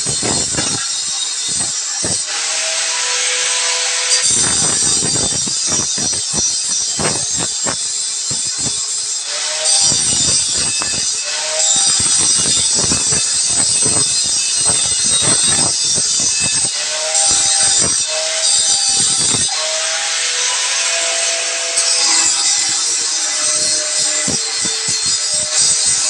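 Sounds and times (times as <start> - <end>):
cut-off disc screeching through steel: 0.0 - 26.0
grinder motor whine: 0.0 - 26.0.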